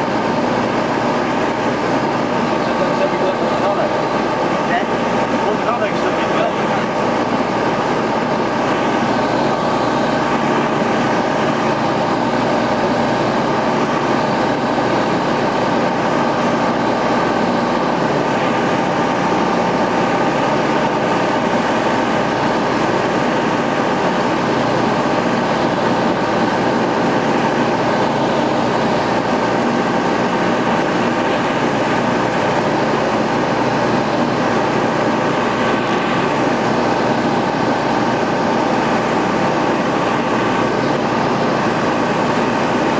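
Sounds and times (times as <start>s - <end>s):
aircraft engine and propeller droning: 0.0s - 42.9s.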